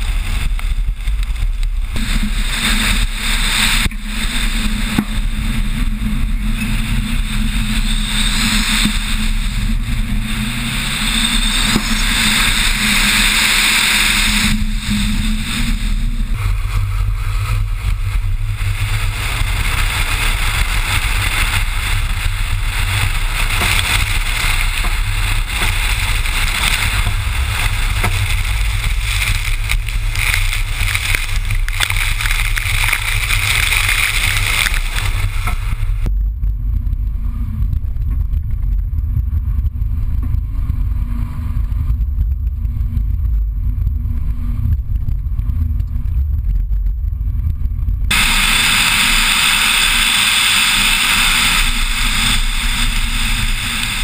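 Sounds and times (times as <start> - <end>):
muffled engine rumble inside car: 0.0 - 54.0
road noise: 0.0 - 54.0
wind buffeting on microphone: 0.0 - 54.0.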